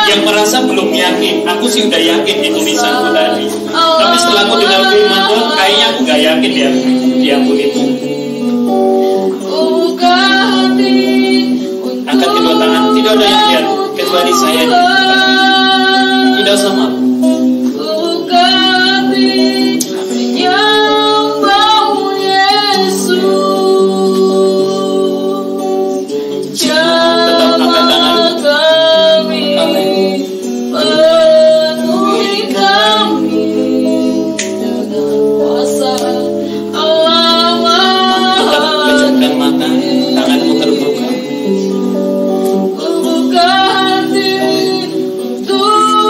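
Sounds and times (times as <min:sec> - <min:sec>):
guitar accompaniment: 0:00.0 - 0:46.0
woman singing slow worship song: 0:00.0 - 0:46.0.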